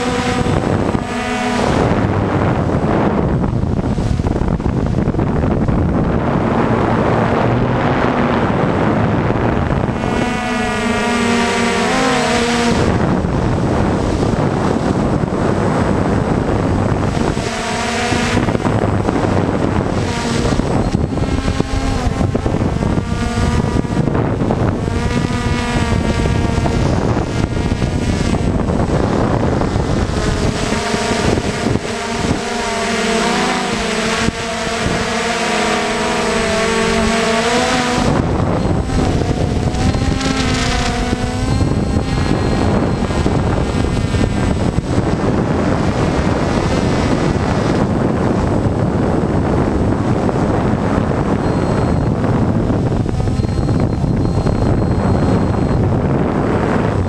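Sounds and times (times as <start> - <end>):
drone propellers buzzing: 0.0 - 57.0
wind on microphone: 0.0 - 57.0.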